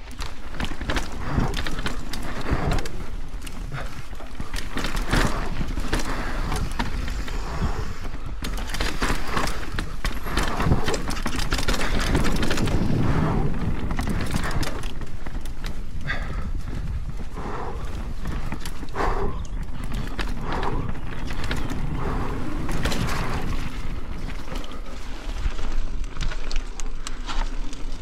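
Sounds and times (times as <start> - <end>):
tyres rolling over dirt and roots: 0.0 - 28.0
wind rumble on microphone: 0.0 - 28.0.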